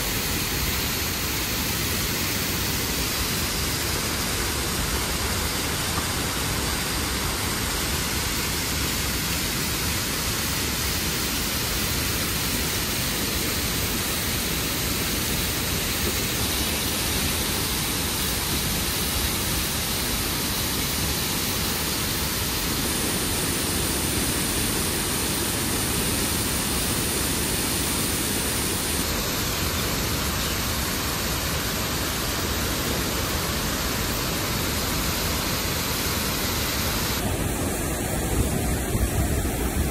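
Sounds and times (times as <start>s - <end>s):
water rushing through dam gate: 0.0s - 39.9s.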